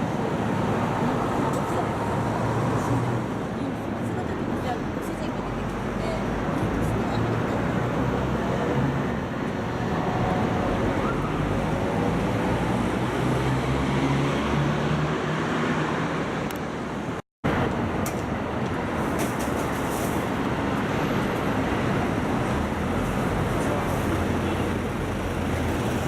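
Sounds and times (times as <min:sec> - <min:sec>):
tyres on the road: 0:00.0 - 0:26.0.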